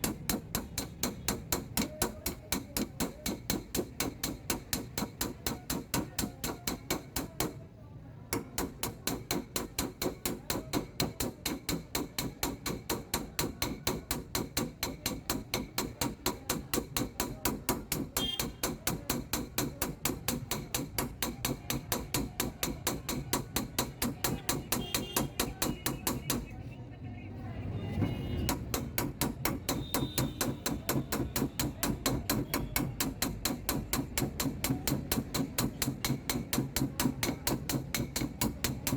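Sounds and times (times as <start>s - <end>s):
small hammer tapping sheet metal: 0.0s - 7.6s, 8.3s - 26.6s, 28.5s - 38.9s.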